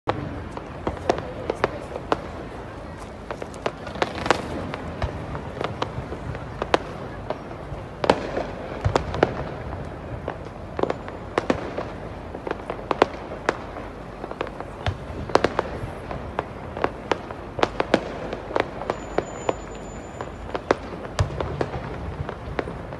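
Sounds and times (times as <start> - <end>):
fireworks bangs and cracks: 0.0 - 22.9
steady background noise: 0.1 - 22.9.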